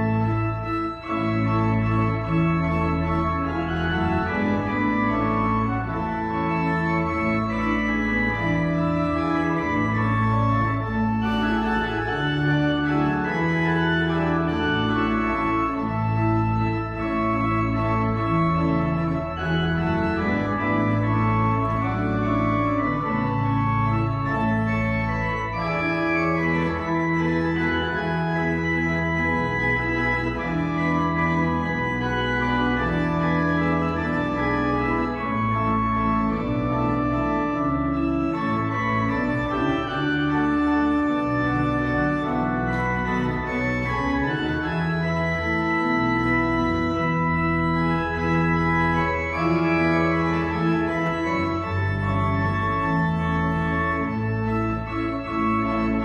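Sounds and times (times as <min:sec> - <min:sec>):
church organ chords: 0:00.0 - 0:56.0
deep organ pedal bass: 0:00.0 - 0:56.0.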